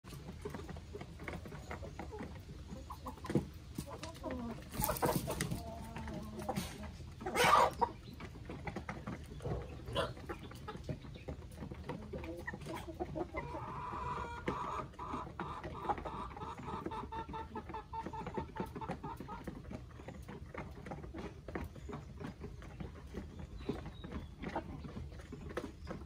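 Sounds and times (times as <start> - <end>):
hens clucking: 0.1 - 26.0.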